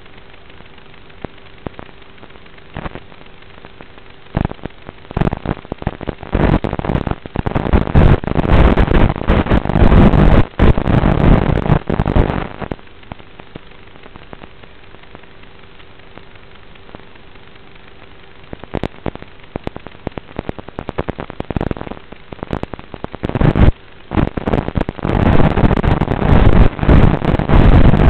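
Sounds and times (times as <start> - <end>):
dense static crackle: 0.0 - 28.0
faint hum: 0.0 - 28.0
steady radio hiss: 0.0 - 28.0.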